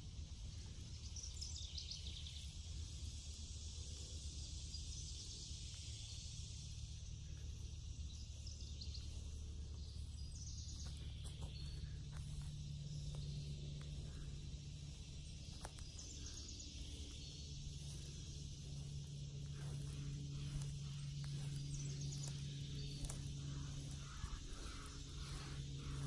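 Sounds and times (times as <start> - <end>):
high insect drone: 0.0 - 26.0
low steady hum: 0.0 - 26.0.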